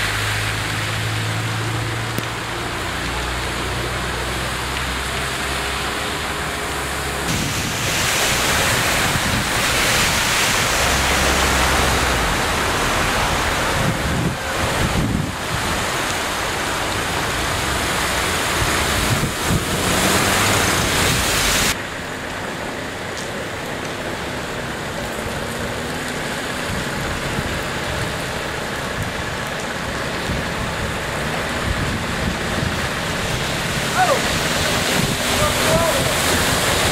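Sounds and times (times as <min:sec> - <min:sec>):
heavy rain: 0:00.0 - 0:36.9
rushing water: 0:00.0 - 0:36.9.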